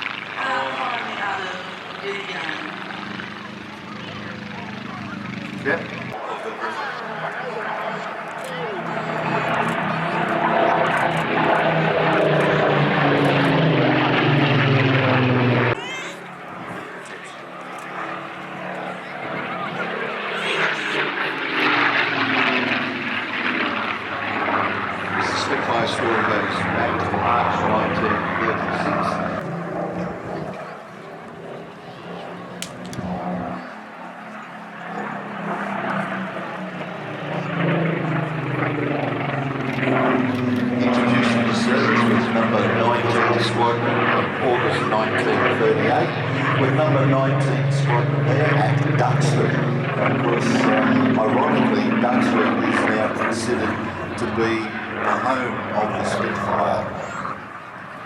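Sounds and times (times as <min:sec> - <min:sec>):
propeller aircraft flying past: 0:00.0 - 0:58.0.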